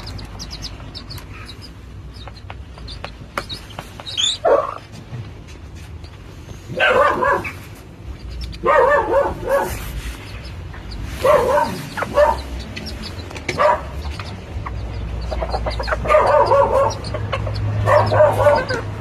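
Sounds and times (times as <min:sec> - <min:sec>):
hen clucking: 0:00.0 - 0:05.0, 0:06.8 - 0:19.0
chicks peeping: 0:00.0 - 0:19.0.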